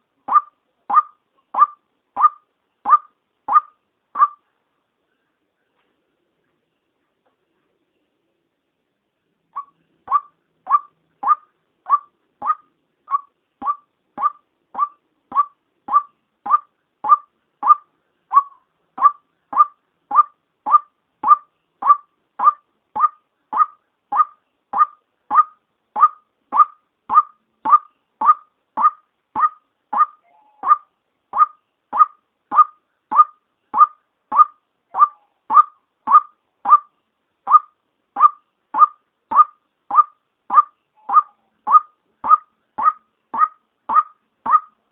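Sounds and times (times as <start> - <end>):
waterhen calling: 0.0 - 4.4, 9.6 - 36.9, 37.5 - 44.8.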